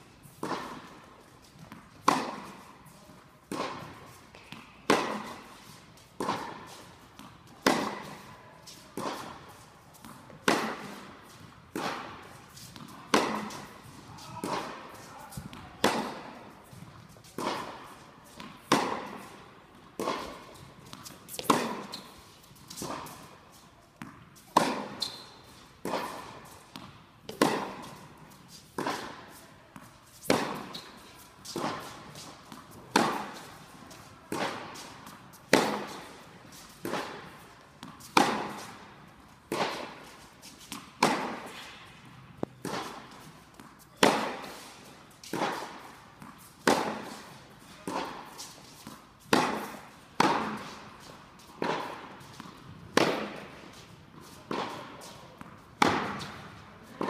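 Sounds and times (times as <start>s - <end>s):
tennis racket hitting ball: 0.2s - 57.0s.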